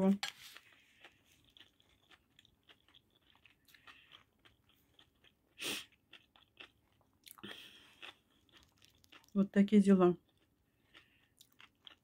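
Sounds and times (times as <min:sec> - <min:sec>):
chewing food: 0:00.3 - 0:12.0.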